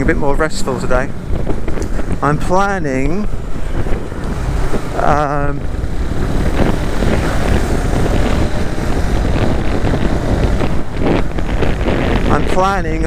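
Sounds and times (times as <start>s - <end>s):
low rumble of motorcycle: 0.0s - 13.0s
wind noise on microphone: 0.0s - 13.0s.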